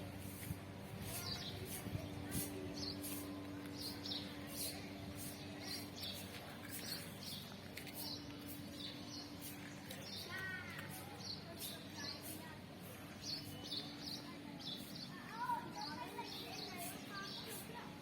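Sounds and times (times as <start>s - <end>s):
steady low hum: 0.0s - 18.0s
birds chirping: 1.0s - 17.8s.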